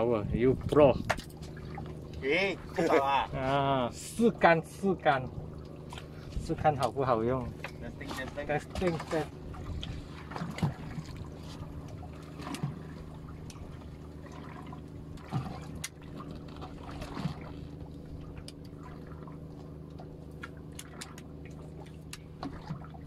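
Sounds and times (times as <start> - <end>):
steady low hum: 0.0 - 23.0
water lapping against boat hull: 0.0 - 23.0.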